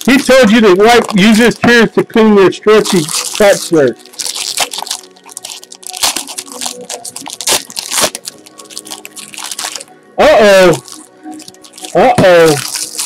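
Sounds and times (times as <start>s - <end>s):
foil wrapper tearing and crinkling: 0.0s - 1.8s, 2.7s - 13.0s
faint background music: 0.0s - 13.0s.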